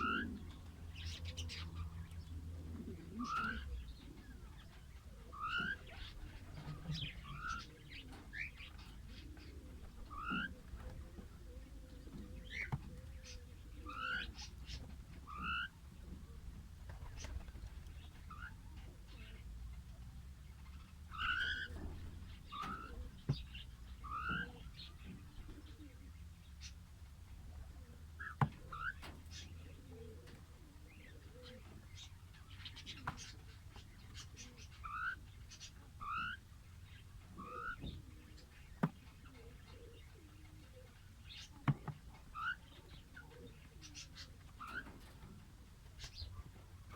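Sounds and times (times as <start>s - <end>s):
lovebirds chirping: 0.0s - 46.9s.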